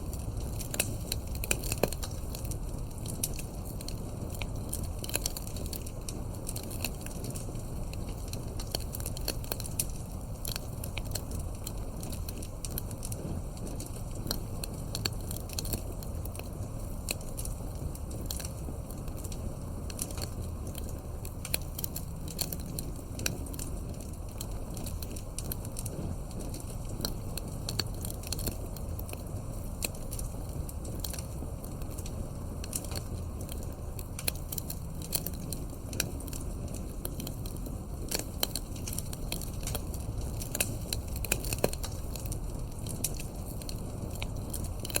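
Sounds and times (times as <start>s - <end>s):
low noise of burning logs: 0.0s - 45.0s
wood fire crackling and popping: 0.0s - 45.0s.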